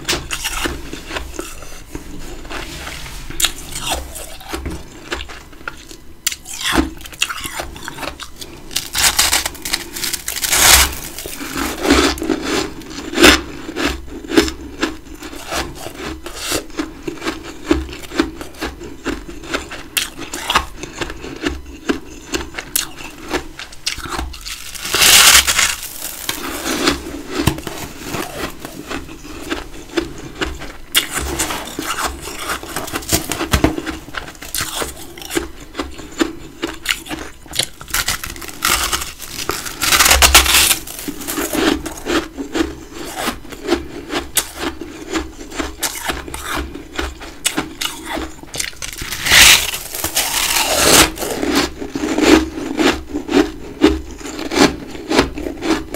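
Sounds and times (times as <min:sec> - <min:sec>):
crunching and chewing frost: 0:00.0 - 0:55.9.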